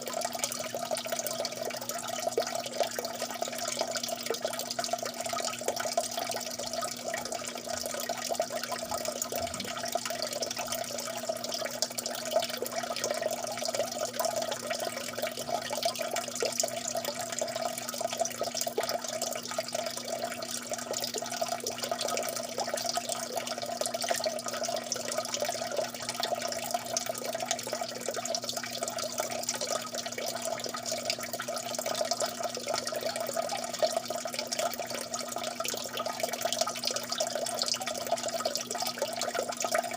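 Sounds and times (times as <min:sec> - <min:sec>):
faint steady hum: 0:00.0 - 0:39.9
water dripping: 0:00.0 - 0:39.9.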